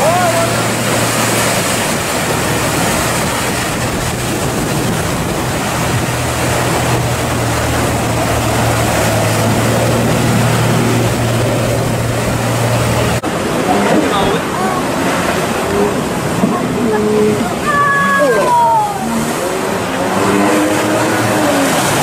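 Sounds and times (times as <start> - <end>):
boat engine humming: 0.0 - 22.0
surf and spray rushing: 0.0 - 22.0.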